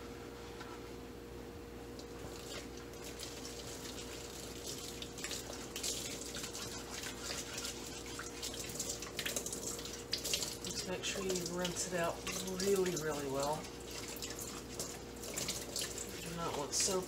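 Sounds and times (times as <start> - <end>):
faucet running into metal sink: 2.3 - 17.0.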